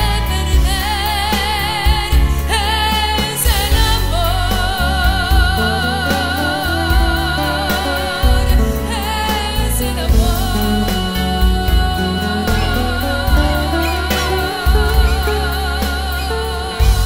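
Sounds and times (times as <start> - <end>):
band playing with bass line: 0.0 - 17.0
woman singing into microphone: 0.0 - 17.0.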